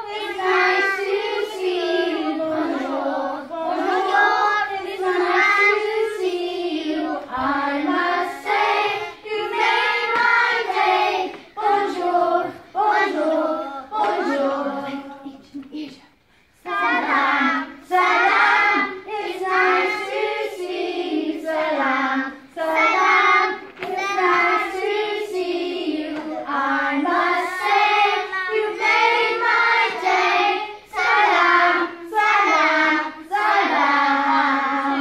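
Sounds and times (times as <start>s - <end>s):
children singing in unison: 0.0s - 15.6s, 16.6s - 35.0s.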